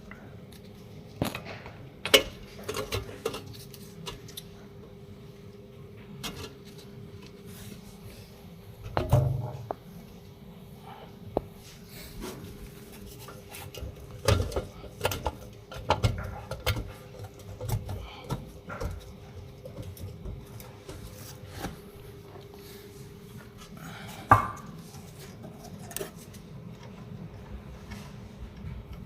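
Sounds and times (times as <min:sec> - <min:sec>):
steady faint hum: 0:00.0 - 0:29.0.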